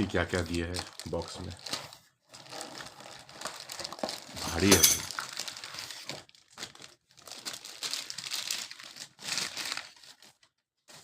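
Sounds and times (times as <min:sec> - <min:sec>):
packaging crinkling: 0:00.3 - 0:11.0.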